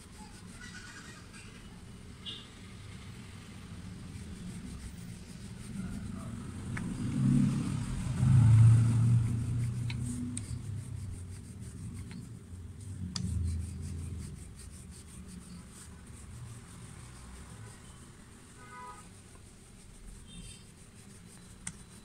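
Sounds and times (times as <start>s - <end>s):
hands rubbing flour: 0.0s - 1.7s, 3.4s - 22.0s
rolling pin rolling dough: 3.8s - 22.0s.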